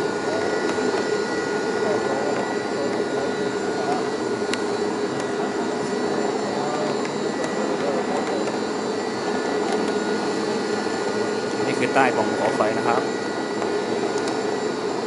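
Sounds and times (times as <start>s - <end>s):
cable lift whirring: 0.0s - 15.0s.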